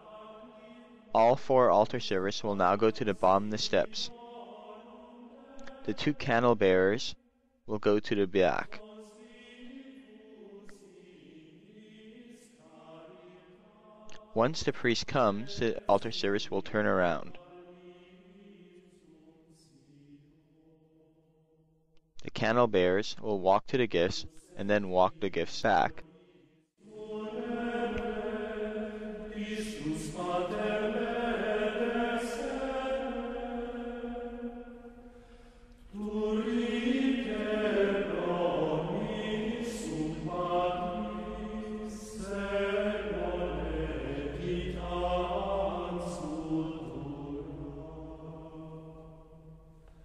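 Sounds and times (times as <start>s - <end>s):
slow sung chant: 0.0s - 21.5s, 23.9s - 50.0s.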